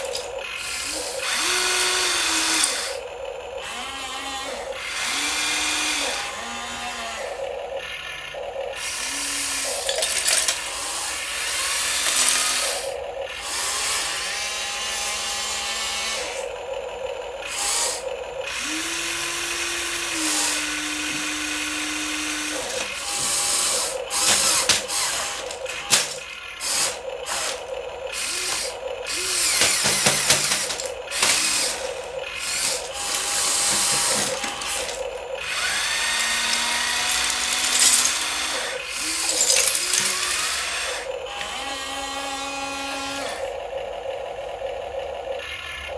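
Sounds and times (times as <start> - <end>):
toy motors whirring and grinding: 0.0 - 45.9.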